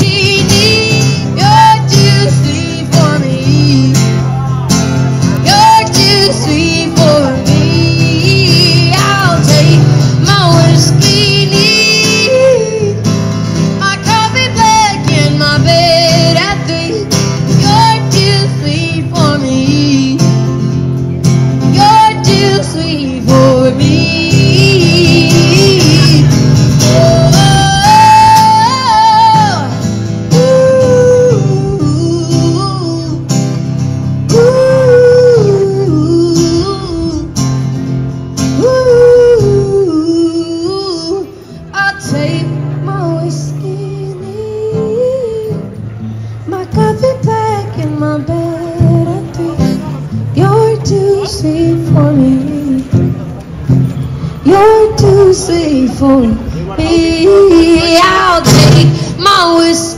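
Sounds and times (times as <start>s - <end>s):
woman singing: 0.0s - 4.3s, 5.4s - 20.6s, 21.6s - 33.4s, 34.2s - 37.4s, 38.5s - 45.8s, 46.5s - 53.0s, 54.4s - 59.9s
acoustic guitar strumming: 0.0s - 59.9s.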